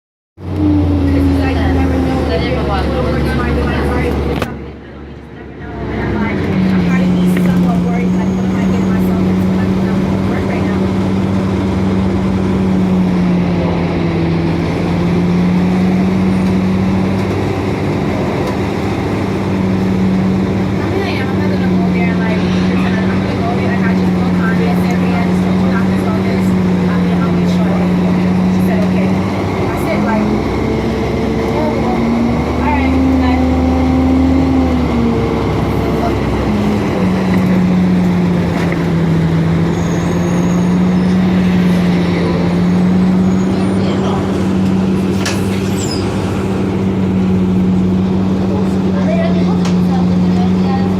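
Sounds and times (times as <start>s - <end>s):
bus drivetrain drone: 0.4s - 50.9s
road rumble: 0.4s - 50.9s.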